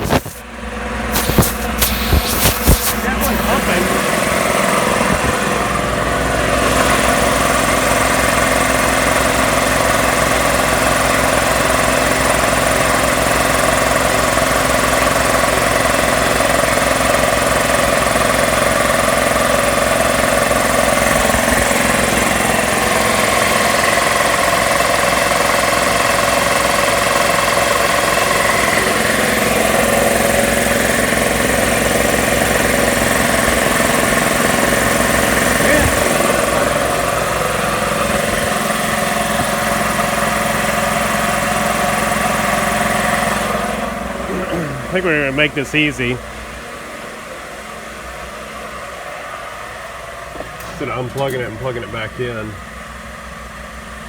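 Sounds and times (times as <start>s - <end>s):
air compressor running: 0.0s - 54.0s.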